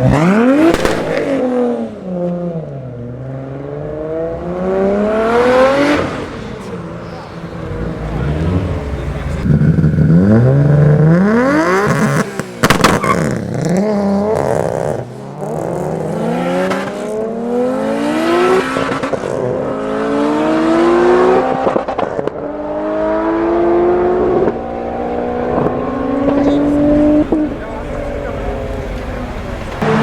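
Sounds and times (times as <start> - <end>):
car engine accelerating through gears: 0.0 - 30.0.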